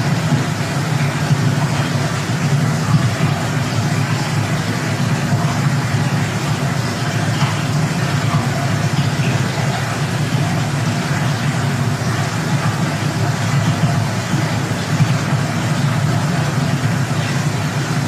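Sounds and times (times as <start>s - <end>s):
steady low noise: 0.0s - 18.0s.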